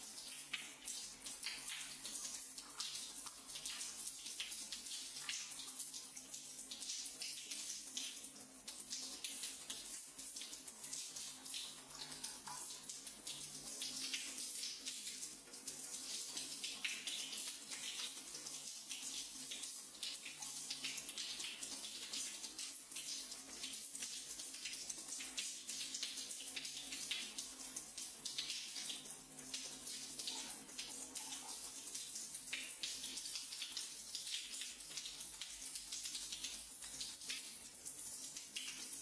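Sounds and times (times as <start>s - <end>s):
shower water splashing on hands: 0.0s - 39.0s.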